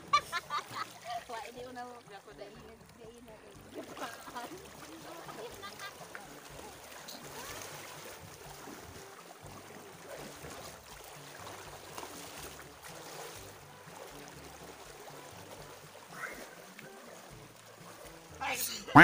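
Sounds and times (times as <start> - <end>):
people wading through water: 0.0 - 19.0.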